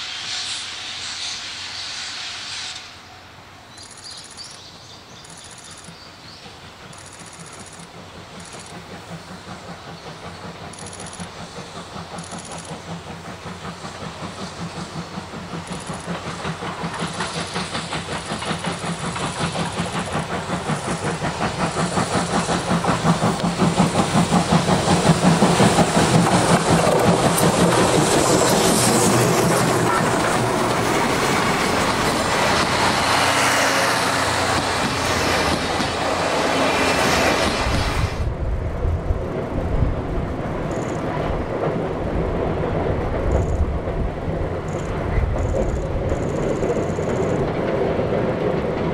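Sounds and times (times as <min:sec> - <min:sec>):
steam locomotive chuffing: 0:00.0 - 0:48.9
rail clatter: 0:05.2 - 0:48.9.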